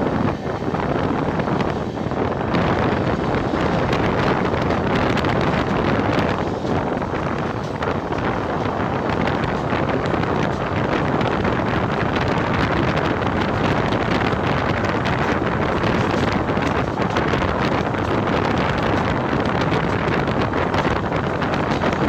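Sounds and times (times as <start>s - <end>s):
train running noise: 0.0s - 22.0s
wind rushing over microphone: 0.0s - 22.0s.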